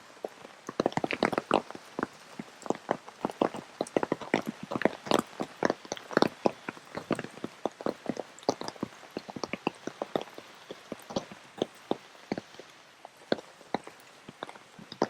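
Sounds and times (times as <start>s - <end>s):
rain pattering on rain gear: 0.0s - 15.0s.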